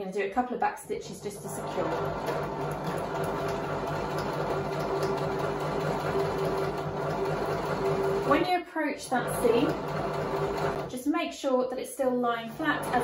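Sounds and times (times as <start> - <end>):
sewing machine running: 1.1 - 11.0, 12.5 - 13.0.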